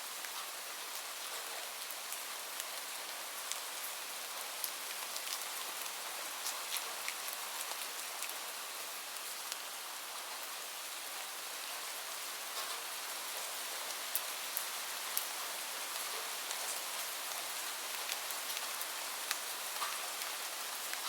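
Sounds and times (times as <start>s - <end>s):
gentle rain hiss: 0.0s - 21.0s.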